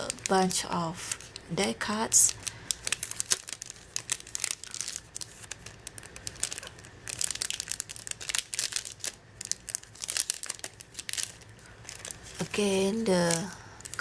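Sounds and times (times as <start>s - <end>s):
paper packaging crinkling: 0.0s - 14.0s.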